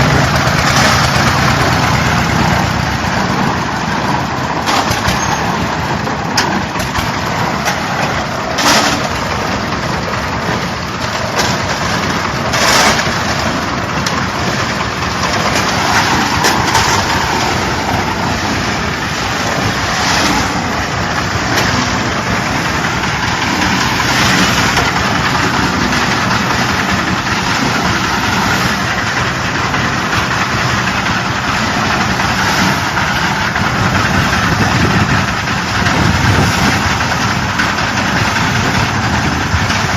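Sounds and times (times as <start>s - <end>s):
concrete mixer clatter and rumble: 0.0s - 39.9s.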